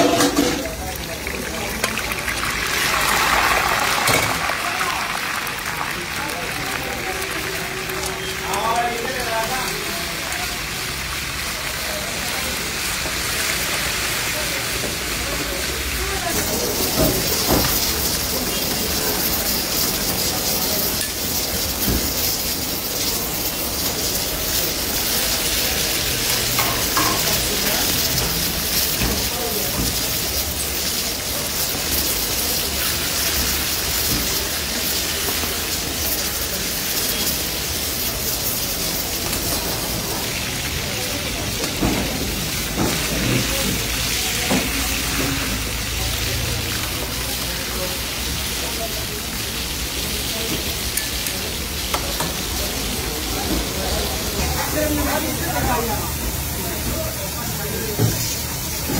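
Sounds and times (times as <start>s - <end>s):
food sizzling in hot oil: 0.0s - 58.9s.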